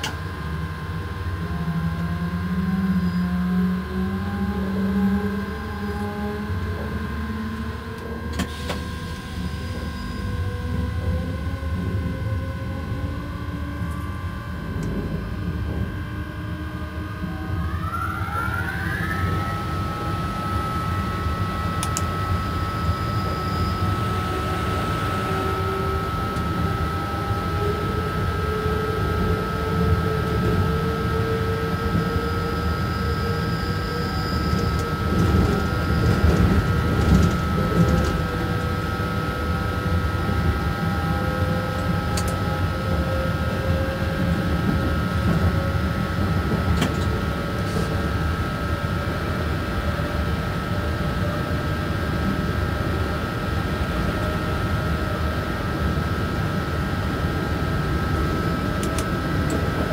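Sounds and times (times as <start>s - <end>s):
electric traction whine: 0.0s - 59.9s
train running gear rumble: 0.0s - 59.9s.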